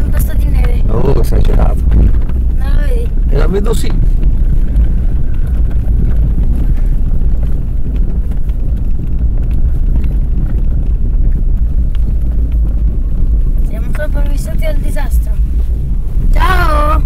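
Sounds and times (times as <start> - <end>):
car interior low rumble: 0.0 - 17.0.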